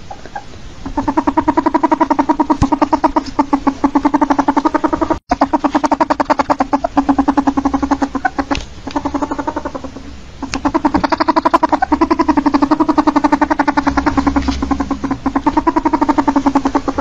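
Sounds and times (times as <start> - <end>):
ferret dooking chatter: 0.0 - 17.0.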